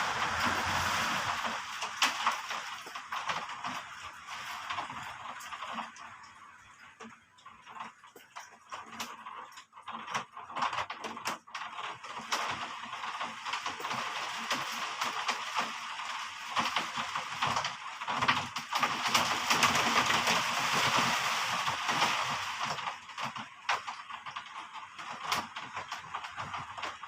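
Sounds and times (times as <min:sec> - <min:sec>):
heavy rain falling: 0:00.0 - 0:07.8, 0:11.6 - 0:27.0.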